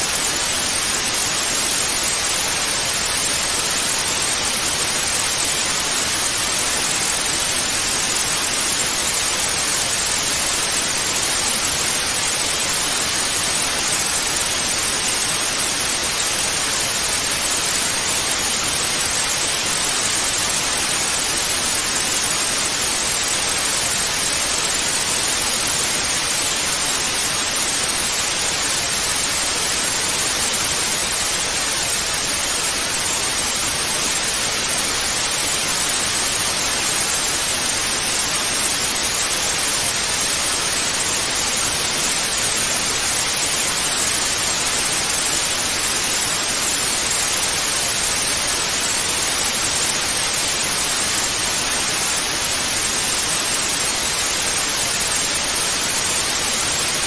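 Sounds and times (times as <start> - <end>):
tv static hiss: 0.0 - 57.0.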